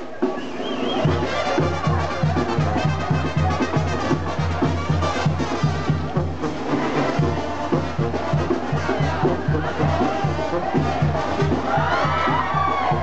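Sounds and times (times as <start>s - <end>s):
brass band playing: 0.0s - 13.0s
tuba bass line: 1.0s - 11.8s.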